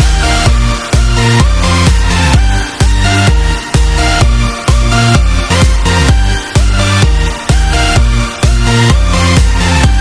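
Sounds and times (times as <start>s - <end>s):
electronic dance music: 0.0s - 10.0s
heavy bass beat: 0.0s - 10.0s.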